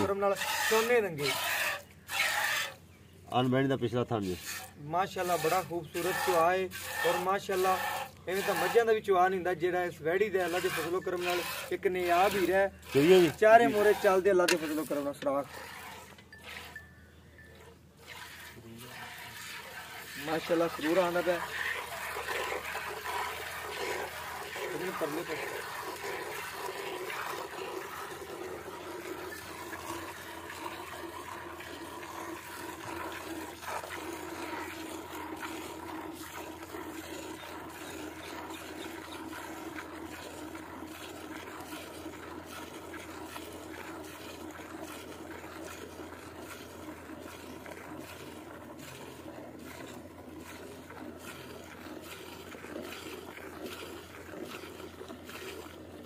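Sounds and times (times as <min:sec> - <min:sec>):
milk squirting into metal bucket: 0:00.0 - 0:56.0.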